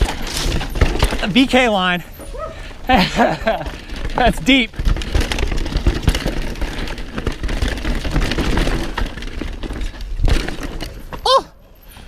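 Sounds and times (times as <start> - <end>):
bike rattling and clattering: 0.0 - 12.0
tyres rolling over dirt and rocks: 0.0 - 12.0.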